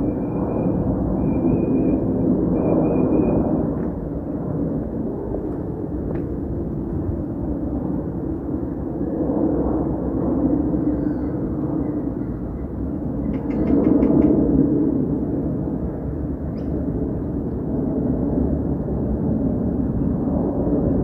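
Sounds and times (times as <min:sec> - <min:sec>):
jet airliner engines rumbling: 0:00.0 - 0:21.0.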